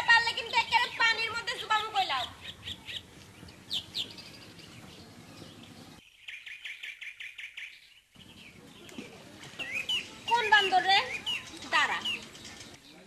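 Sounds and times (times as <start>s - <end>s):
small bird chirping: 2.2s - 13.0s.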